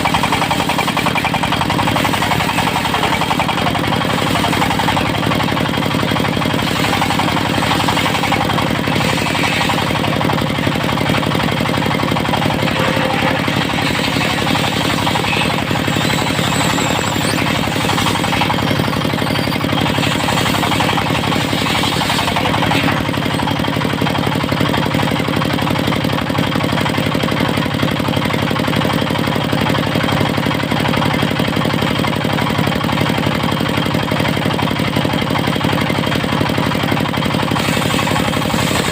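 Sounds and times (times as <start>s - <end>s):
sawmill diesel engine running: 0.0s - 38.9s.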